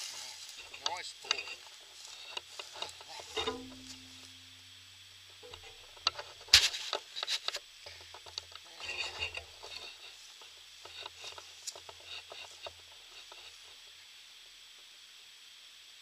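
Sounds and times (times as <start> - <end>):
footsteps crunching through dry grass: 0.0 - 4.6, 5.4 - 14.1.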